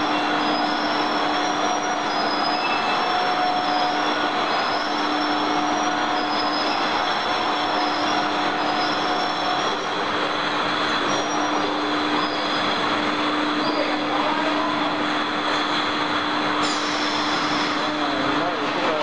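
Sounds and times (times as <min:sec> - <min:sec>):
factory machinery whirring: 0:00.0 - 0:19.0
high-pitched whine: 0:00.0 - 0:19.0.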